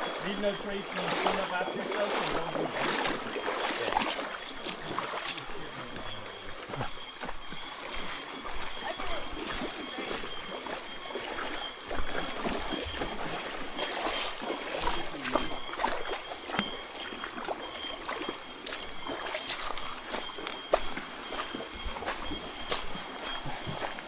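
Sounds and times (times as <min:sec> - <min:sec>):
faint high steady tone: 0:00.0 - 0:24.0
water sloshing and splashing: 0:00.0 - 0:24.0.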